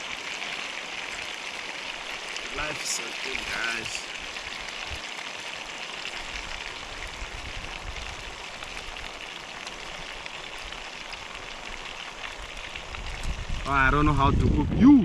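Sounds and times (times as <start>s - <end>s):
watery hiss with patter: 0.0s - 15.0s.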